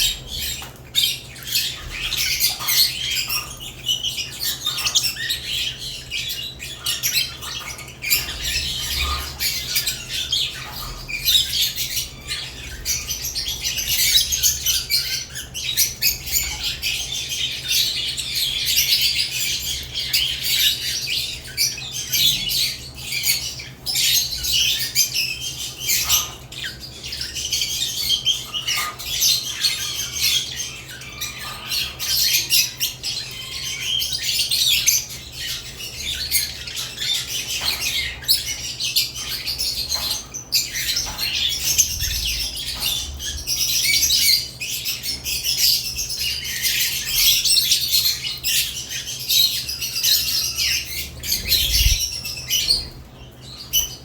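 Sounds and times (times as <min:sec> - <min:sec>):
lovebirds chirping and squawking: 0:00.0 - 0:54.0.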